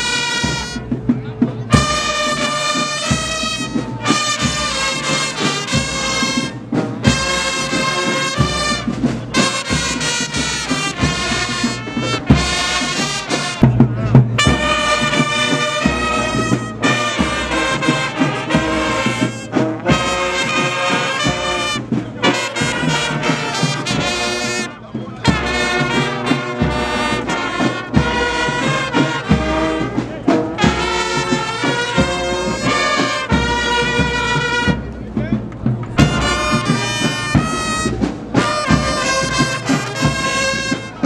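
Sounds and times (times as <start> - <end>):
brass band playing a march: 0.0 - 41.0
drum beat: 0.0 - 41.0.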